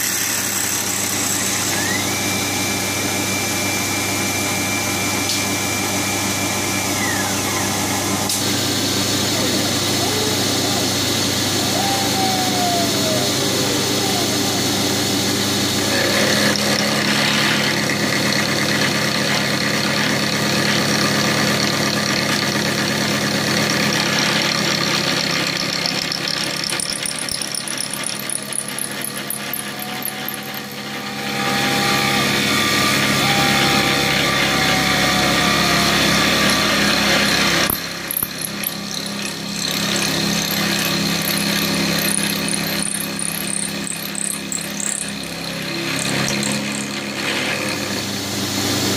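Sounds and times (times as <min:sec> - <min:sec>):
milling machine cutting metal: 0:00.0 - 0:48.9.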